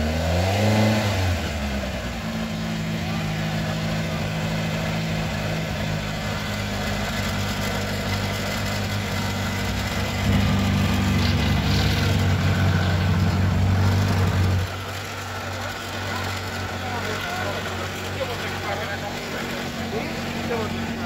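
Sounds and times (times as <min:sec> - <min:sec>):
car engine idling: 0:01.2 - 0:21.0.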